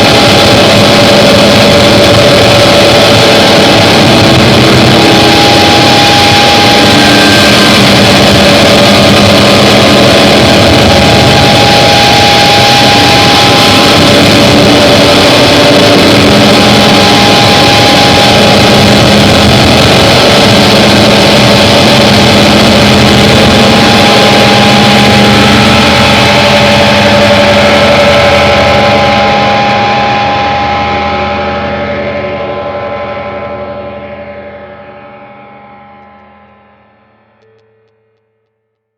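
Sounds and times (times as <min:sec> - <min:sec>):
held drone tones: 0:00.0 - 0:38.6
distorted noise wall: 0:00.0 - 0:38.8.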